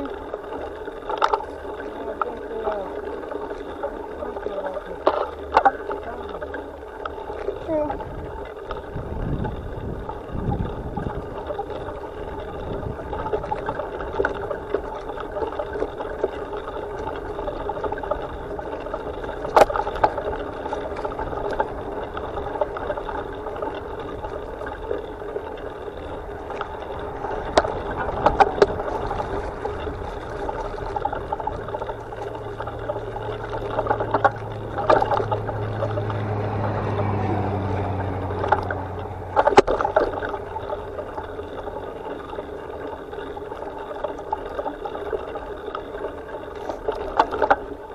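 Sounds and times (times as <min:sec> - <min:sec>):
camera rattling on bumpy trail: 0:00.0 - 0:47.9
low steady hum: 0:00.0 - 0:47.9
wind: 0:00.0 - 0:47.9.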